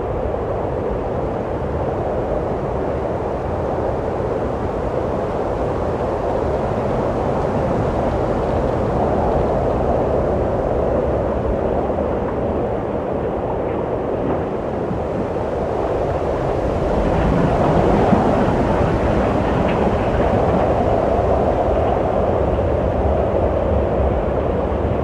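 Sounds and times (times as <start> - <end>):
wind blowing: 1.0 - 24.4.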